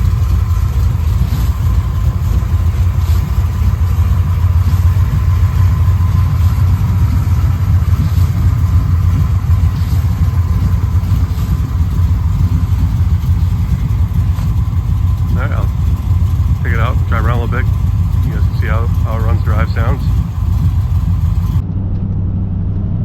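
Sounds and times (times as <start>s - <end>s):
truck engine idling: 0.0s - 21.6s.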